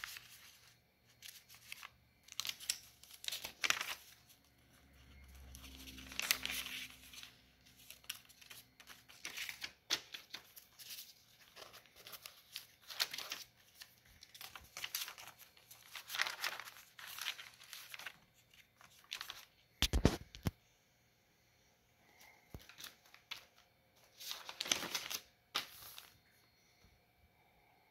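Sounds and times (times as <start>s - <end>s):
paper rustling and crinkling: 0.0s - 20.6s, 22.2s - 26.4s.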